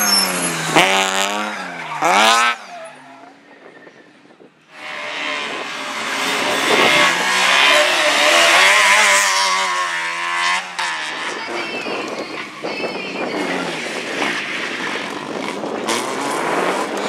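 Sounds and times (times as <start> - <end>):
car engine revving: 0.0 - 2.9, 4.8 - 11.8, 13.2 - 17.0.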